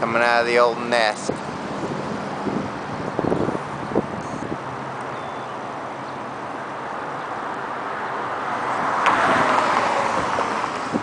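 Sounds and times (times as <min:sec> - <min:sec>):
street traffic noise: 0:00.0 - 0:11.0
vehicle passing close by: 0:01.3 - 0:11.0.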